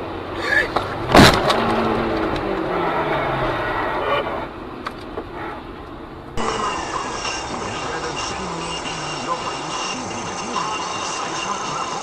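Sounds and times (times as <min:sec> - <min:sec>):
vehicle engine: 0:00.0 - 0:12.0.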